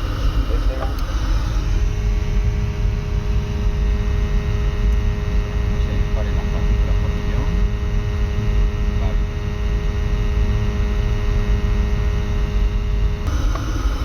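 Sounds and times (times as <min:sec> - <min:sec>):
oil burner rumbling: 0:00.0 - 0:14.0.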